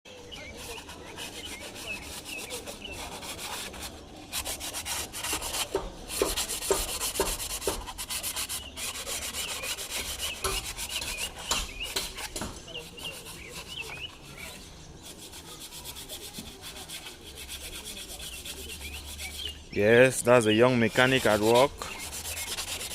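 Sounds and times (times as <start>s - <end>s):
hand scraping metal: 0.1s - 22.9s.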